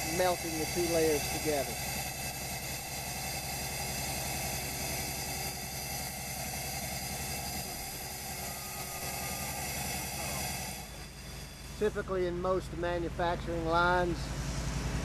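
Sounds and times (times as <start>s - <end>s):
high-pitched whine tones: 0.0s - 13.0s
machine hum: 0.0s - 15.0s.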